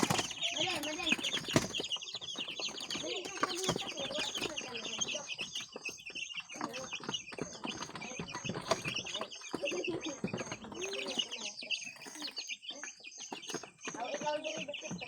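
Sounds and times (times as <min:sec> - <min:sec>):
chickens chirping: 0:00.0 - 0:15.0
chickens clucking: 0:00.0 - 0:15.0.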